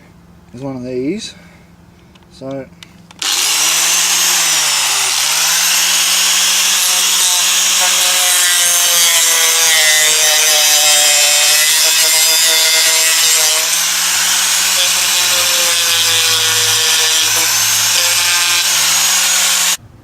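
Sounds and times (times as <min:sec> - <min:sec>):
power tool whining: 0:03.2 - 0:19.8.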